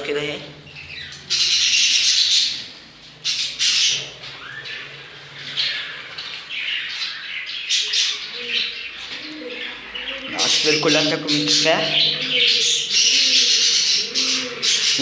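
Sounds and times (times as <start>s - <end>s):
parrots squawking: 0.3s - 15.0s.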